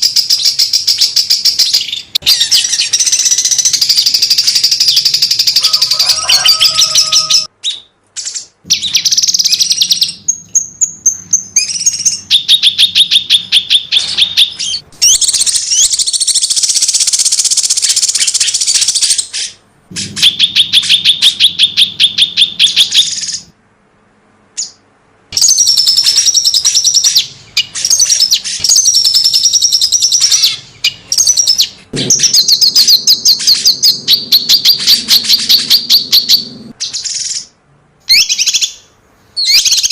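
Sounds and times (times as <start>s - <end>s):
songbird rapid high chirps: 0.0s - 23.5s, 25.4s - 37.5s.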